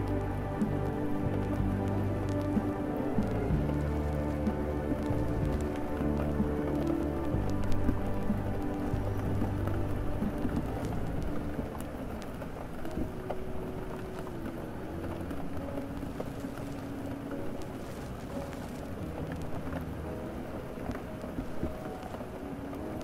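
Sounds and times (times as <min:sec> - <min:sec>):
faint ticks: 0:00.0 - 0:23.0
low rumble of traffic: 0:00.0 - 0:23.0
muffled record player music: 0:00.0 - 0:23.0
steady rain: 0:00.0 - 0:23.0.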